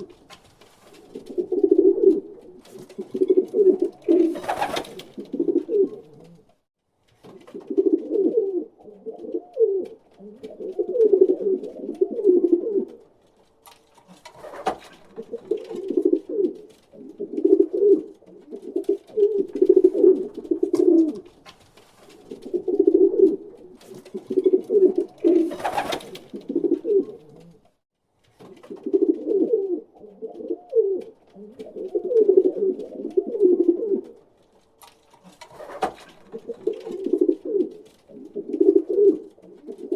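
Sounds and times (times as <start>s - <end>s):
pigeon cooing: 1.0s - 6.5s, 7.5s - 13.0s, 15.1s - 21.3s, 22.3s - 27.7s, 28.6s - 34.2s, 35.5s - 39.9s.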